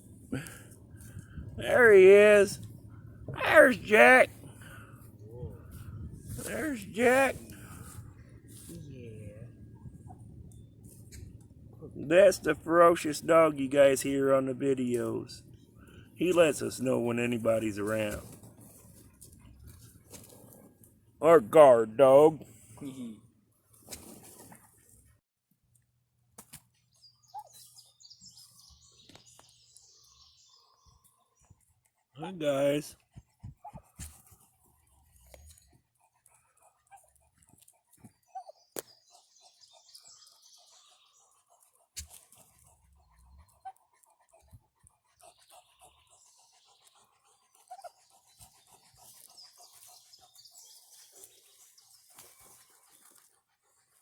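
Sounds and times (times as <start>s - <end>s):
small birds chirping: 0.0s - 23.0s, 26.6s - 54.0s.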